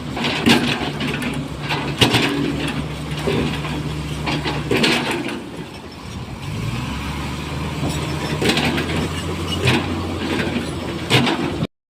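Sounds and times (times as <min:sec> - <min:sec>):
heavy diesel machinery droning: 0:00.0 - 0:11.7
clattering metal knocks: 0:00.1 - 0:06.2, 0:07.8 - 0:11.7.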